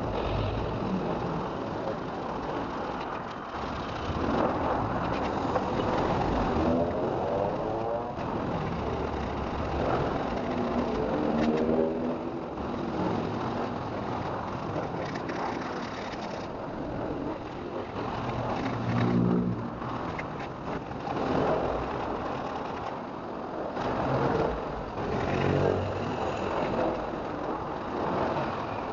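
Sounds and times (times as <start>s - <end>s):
vehicle engines revving: 0.0s - 22.2s, 23.8s - 28.9s
steady background noise: 0.0s - 28.9s.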